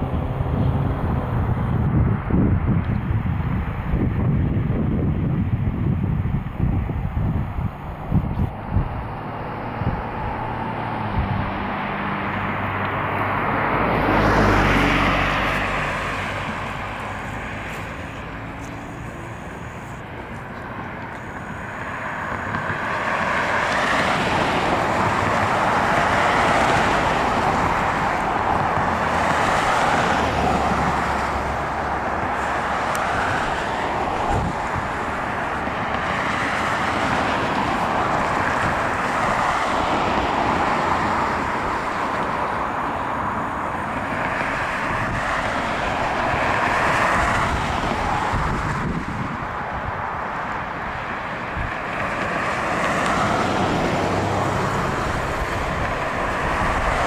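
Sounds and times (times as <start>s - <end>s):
cars passing on road: 0.0s - 57.0s.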